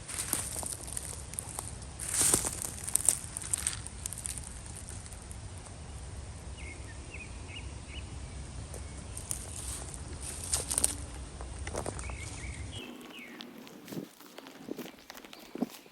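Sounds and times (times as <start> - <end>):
crunches and rustles in dry leaves: 0.0 - 5.9, 8.7 - 15.9
steady low rumble: 0.0 - 15.2.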